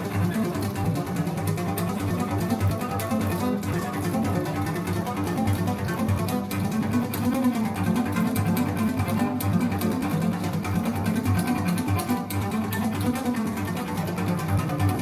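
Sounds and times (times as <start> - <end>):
recorded music with low strings and bass: 0.0 - 15.0.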